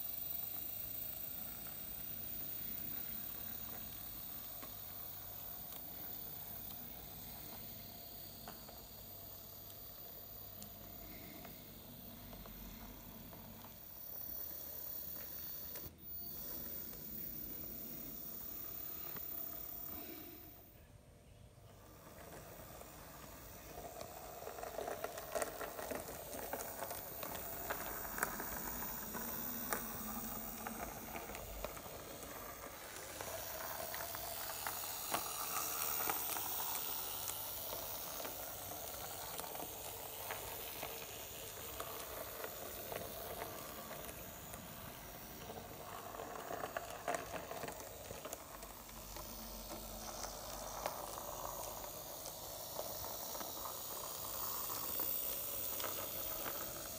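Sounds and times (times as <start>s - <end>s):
model train running on track: 0.0s - 56.9s.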